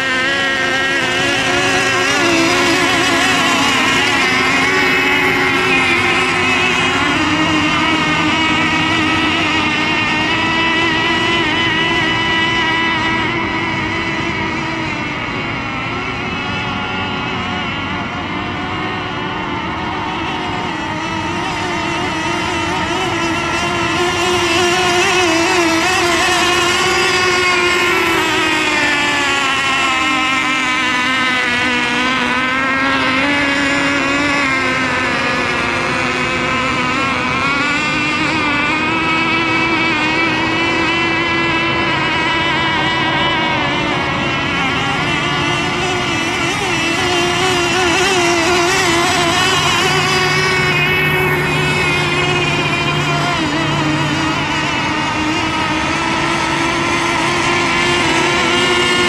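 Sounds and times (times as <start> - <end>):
model boat engines buzzing: 0.0 - 59.0.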